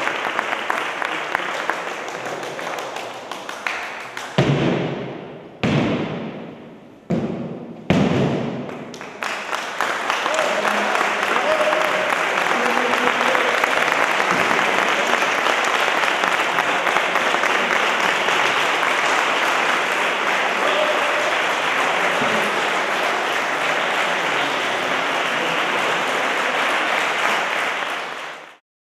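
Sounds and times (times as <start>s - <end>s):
audience applauding: 0.0s - 4.4s, 8.7s - 28.6s.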